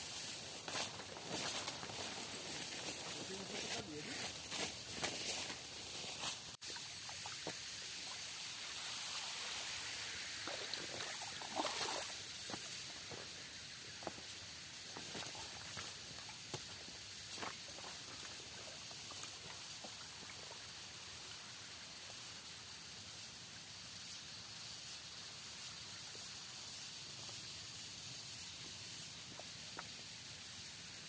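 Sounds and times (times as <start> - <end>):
steady high-pitched hiss: 0.0 - 31.0.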